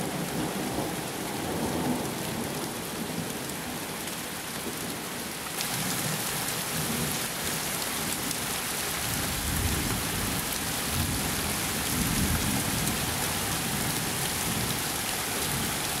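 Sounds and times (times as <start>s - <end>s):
steady rain pouring: 0.0s - 16.0s.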